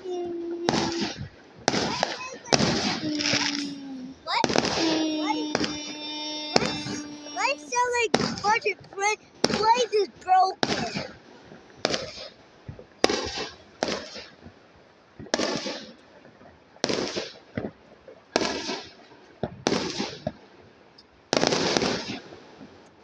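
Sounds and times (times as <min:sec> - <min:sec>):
fireworks bangs: 0:00.0 - 0:14.6, 0:15.2 - 0:16.2, 0:16.8 - 0:20.4, 0:21.3 - 0:22.9.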